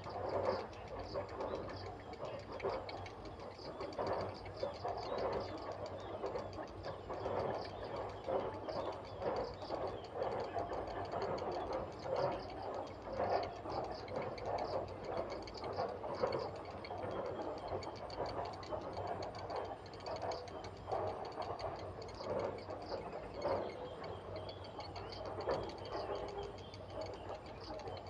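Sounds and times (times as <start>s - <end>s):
heron nestlings ticking chatter: 0.0s - 28.0s.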